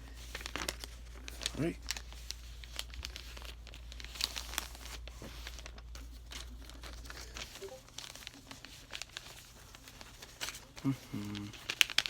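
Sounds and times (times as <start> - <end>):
paper folding and crinkling: 0.0 - 12.0.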